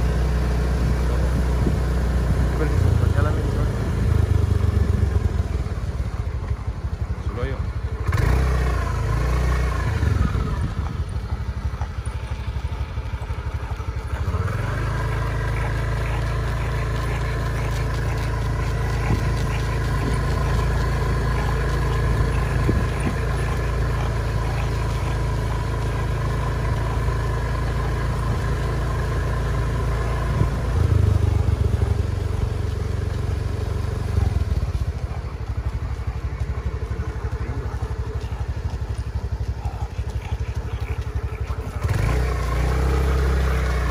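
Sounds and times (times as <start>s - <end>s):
engine running at low speed: 0.0s - 43.9s.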